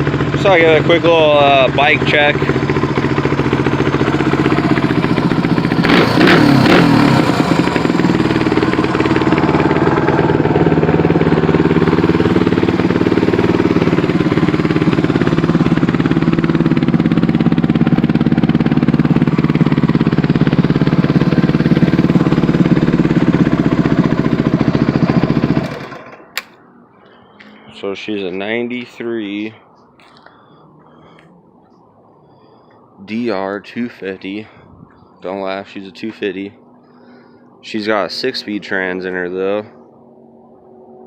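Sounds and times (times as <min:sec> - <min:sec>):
motorcycle engine idling: 0:00.0 - 0:41.0.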